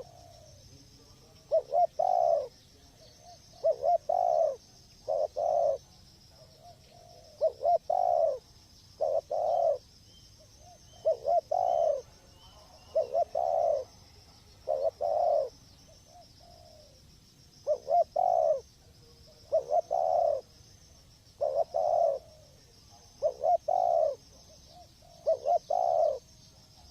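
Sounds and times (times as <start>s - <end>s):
dove cooing: 0.0s - 26.9s.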